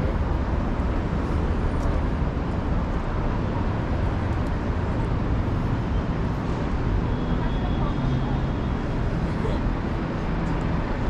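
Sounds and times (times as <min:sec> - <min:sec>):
road vehicle rumble: 0:00.0 - 0:11.0.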